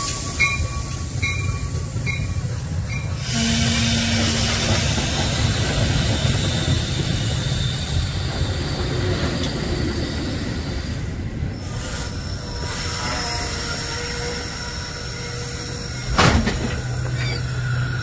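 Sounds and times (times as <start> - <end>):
high wheel squeal: 0.0 - 18.0
train wheels rumbling on track: 0.0 - 18.0.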